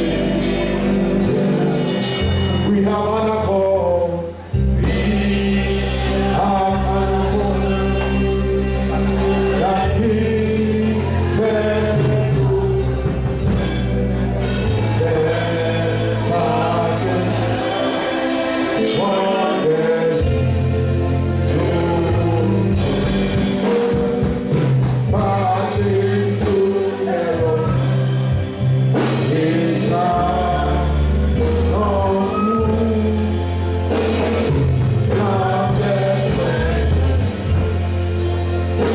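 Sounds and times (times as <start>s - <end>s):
drums: 0.0s - 38.9s
gospel singing: 0.0s - 38.9s
held bass notes: 0.0s - 38.9s.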